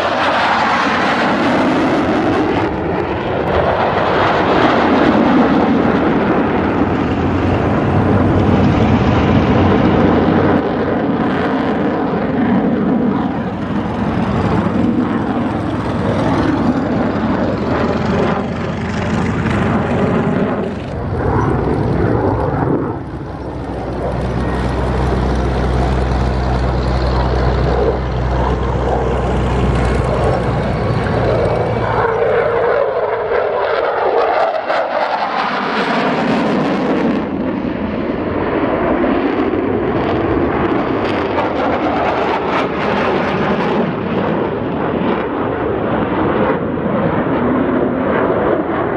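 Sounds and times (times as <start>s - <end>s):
jet flying overhead: 0.0s - 48.9s.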